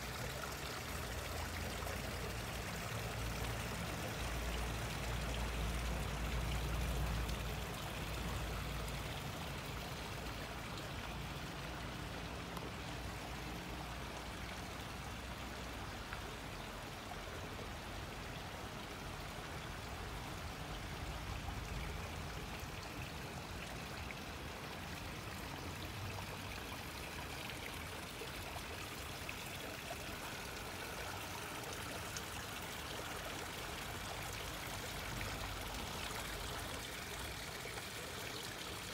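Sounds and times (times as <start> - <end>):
brook trickling: 0.0 - 38.9.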